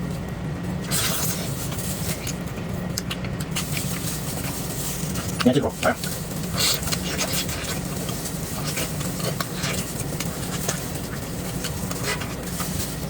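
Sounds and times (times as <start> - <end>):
steady low hum: 0.0 - 13.0
person chewing food: 0.8 - 13.0.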